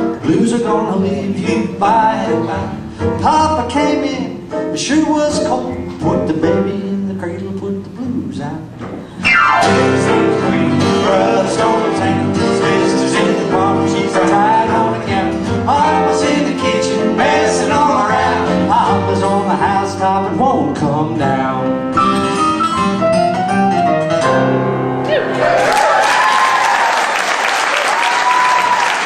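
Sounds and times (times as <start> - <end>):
acoustic guitars playing folk song: 0.0 - 25.5.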